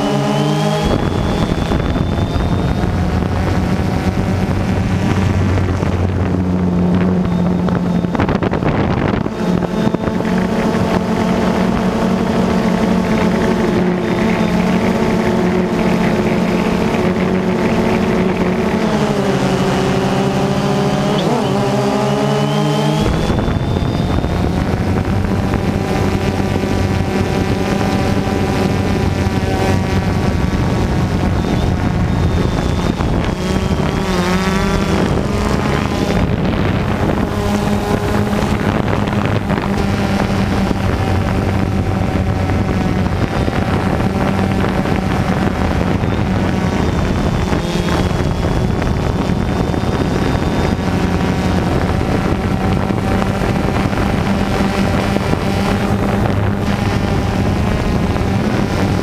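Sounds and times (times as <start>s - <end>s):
drone motors humming: 0.0s - 59.0s
wind noise on microphone: 0.0s - 59.0s.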